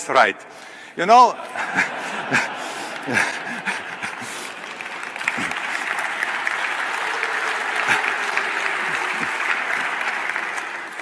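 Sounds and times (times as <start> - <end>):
audience clapping: 1.4 - 11.0.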